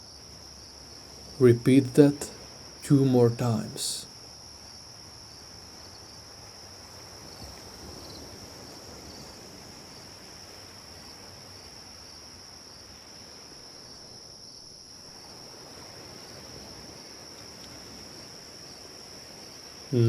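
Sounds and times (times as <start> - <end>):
cricket chorus: 0.0 - 20.0.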